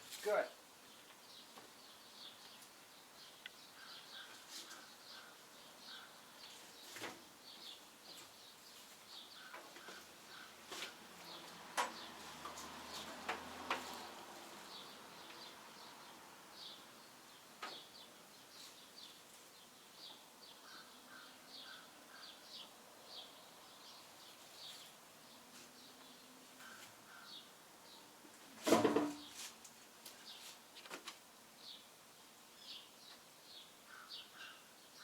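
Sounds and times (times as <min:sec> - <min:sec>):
small birds chirping: 0:00.0 - 0:28.2, 0:29.2 - 0:30.9, 0:31.6 - 0:35.0.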